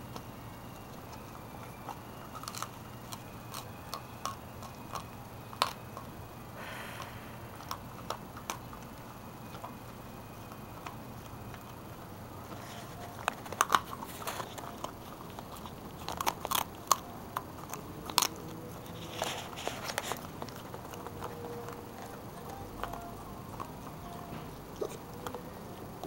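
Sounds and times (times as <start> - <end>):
puppy chewing crunchy chew: 0.0 - 26.0.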